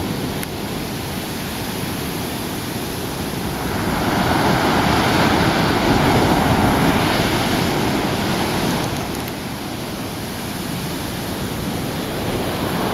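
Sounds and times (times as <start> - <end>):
sea surf breaking on beach: 0.0 - 12.9
wind on microphone: 0.0 - 12.9.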